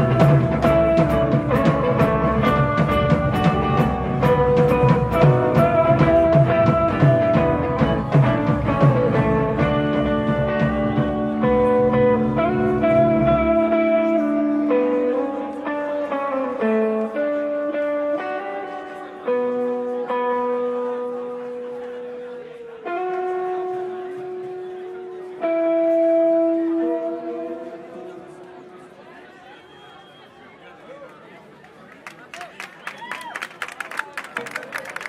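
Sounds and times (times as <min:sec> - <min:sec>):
rock band playing: 0:00.0 - 0:28.2
guitar chords ringing: 0:00.0 - 0:29.0.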